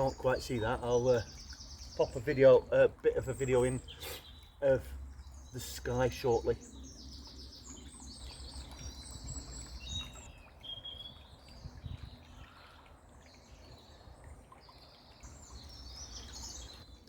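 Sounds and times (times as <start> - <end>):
bubbling brook: 0.0 - 17.0
songbirds chirping: 0.0 - 17.0.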